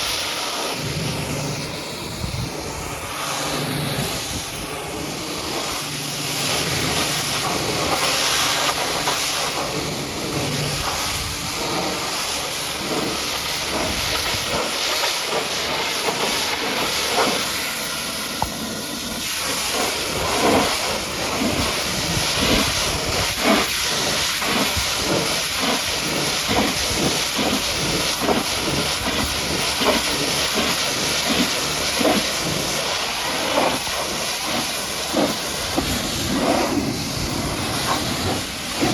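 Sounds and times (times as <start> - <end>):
pressure washer spraying: 0.0 - 38.9
water spattering: 3.4 - 38.9.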